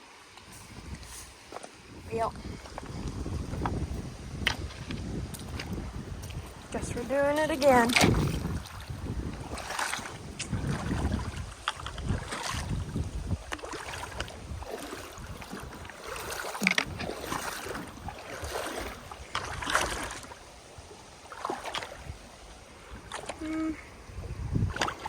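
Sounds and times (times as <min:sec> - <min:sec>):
wind rumbling on microphone: 0:00.0 - 0:25.0
footsteps splashing through water: 0:00.4 - 0:20.5, 0:21.2 - 0:22.2, 0:24.6 - 0:25.0.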